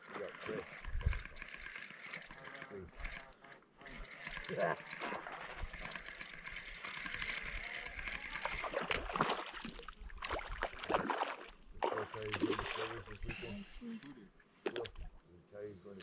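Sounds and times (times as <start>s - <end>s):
water splashing and lapping: 0.0s - 13.8s.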